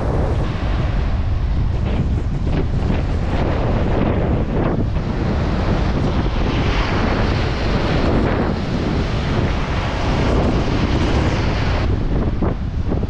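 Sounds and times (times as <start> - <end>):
strong wind buffeting microphone: 0.0 - 13.0
surf breaking on shore: 0.0 - 13.0.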